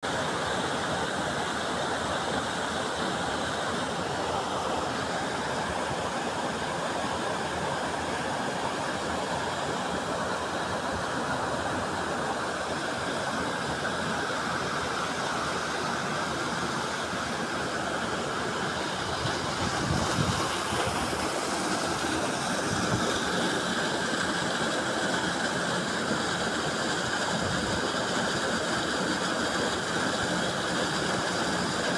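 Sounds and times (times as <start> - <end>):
waterfall roaring: 0.2 - 31.9.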